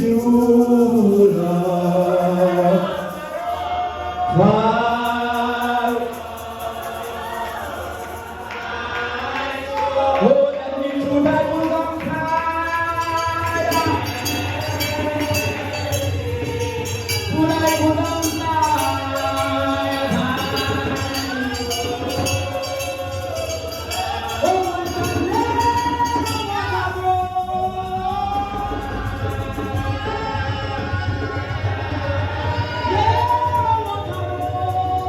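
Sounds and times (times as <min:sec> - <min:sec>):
percussion beat: 0:00.0 - 0:03.8, 0:04.4 - 0:35.0
people singing: 0:00.0 - 0:35.0.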